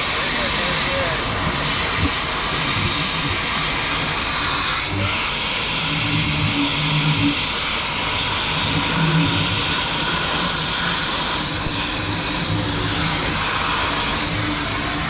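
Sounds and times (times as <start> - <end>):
cutting torch hissing roar: 0.0 - 15.0.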